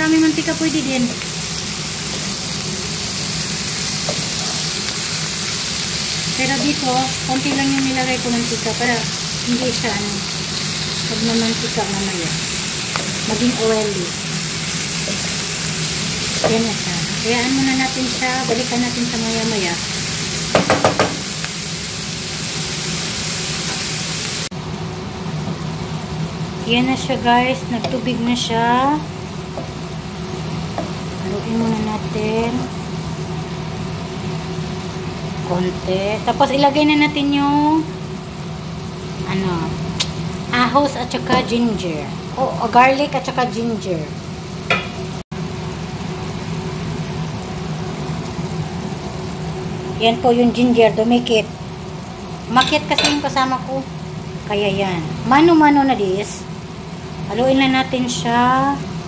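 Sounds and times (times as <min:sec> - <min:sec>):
liver and onions sizzling in oil: 0:00.0 - 0:59.0
low machine hum: 0:00.0 - 0:59.0.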